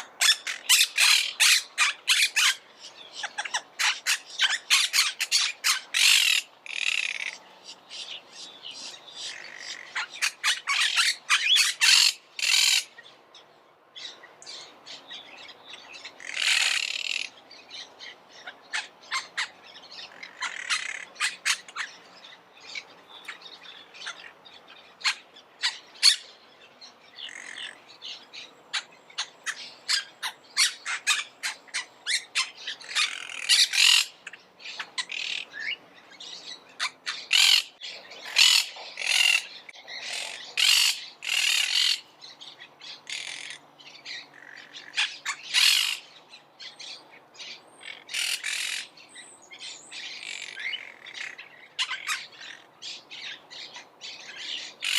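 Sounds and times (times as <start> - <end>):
parakeets chattering and squawking: 0.0 - 7.4, 8.8 - 13.1, 15.8 - 17.4, 18.4 - 26.3, 28.7 - 49.0, 49.6 - 54.9.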